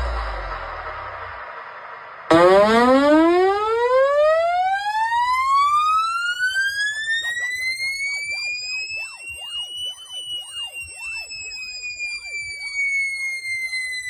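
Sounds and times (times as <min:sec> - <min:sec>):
faint warbling siren sweeps: 0:00.0 - 0:14.0
siren tone sweeping upward: 0:02.2 - 0:14.0.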